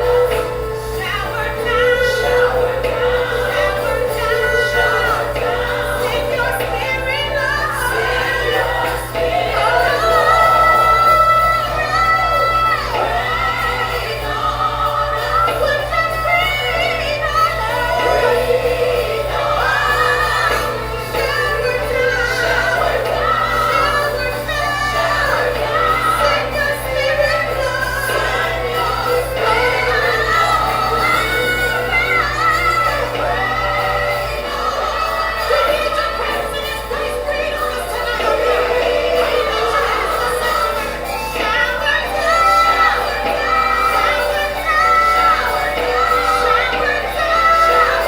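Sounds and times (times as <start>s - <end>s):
instrumental backing: 0.0s - 48.0s
woman singing gospel song: 0.0s - 48.0s.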